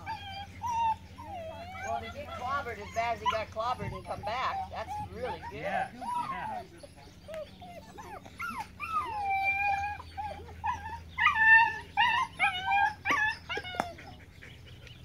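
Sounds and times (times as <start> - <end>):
puppy yipping and whining: 0.0 - 14.4.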